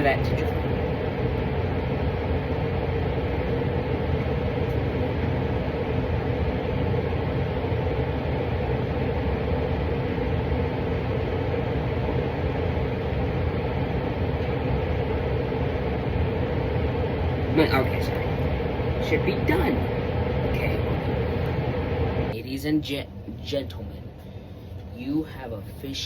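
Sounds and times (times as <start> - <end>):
constant hum: 0.0 - 26.0
low rumbling background noise: 0.0 - 26.0.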